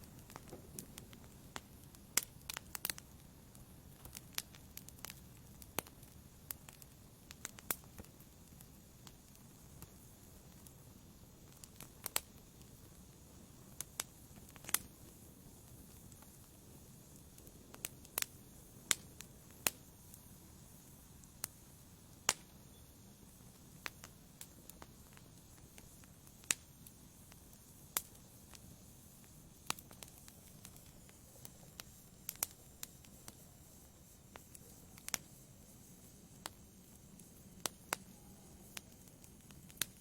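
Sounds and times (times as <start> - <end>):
fire hissing: 0.0 - 40.0
wood fire crackling and popping: 0.0 - 40.0.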